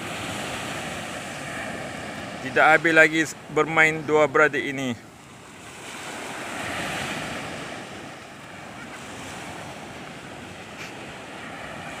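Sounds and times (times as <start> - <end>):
surf washing up beach: 0.0 - 12.0.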